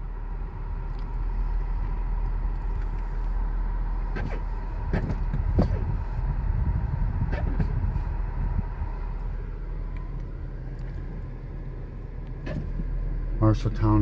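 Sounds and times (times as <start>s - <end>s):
faint steady whine: 0.0s - 14.0s
road and engine rumble: 0.0s - 14.0s.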